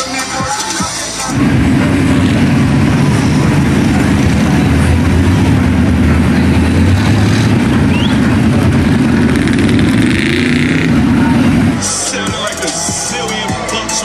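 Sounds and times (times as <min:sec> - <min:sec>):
truck engine running loudly: 0:00.0 - 0:14.0.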